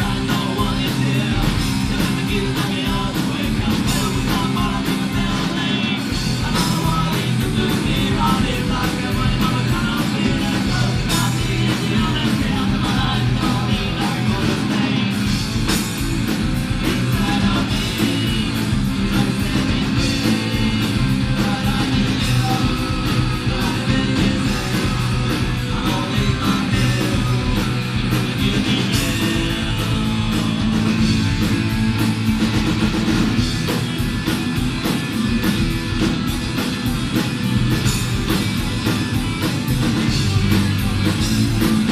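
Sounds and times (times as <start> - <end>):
bass guitar: 0.0 - 41.9
distorted electric guitars: 0.0 - 41.9
drum kit: 0.0 - 41.9.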